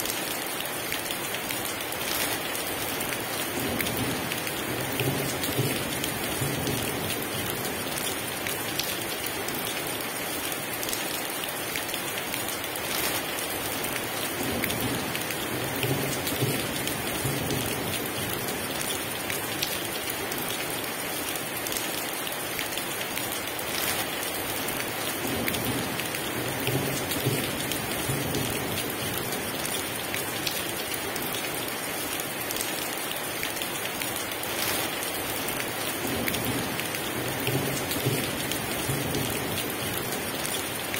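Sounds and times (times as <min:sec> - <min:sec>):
heavy rain pouring: 0:00.0 - 0:40.9
raindrop impacts: 0:00.9 - 0:09.8, 0:11.8 - 0:20.7, 0:22.6 - 0:31.8, 0:32.4 - 0:40.9.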